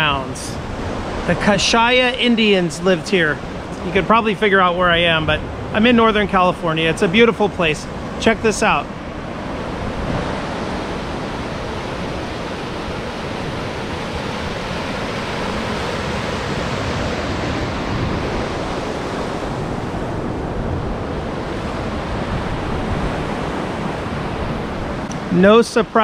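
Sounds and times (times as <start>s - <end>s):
ocean surf washing: 0.0s - 26.0s
wind: 0.0s - 26.0s.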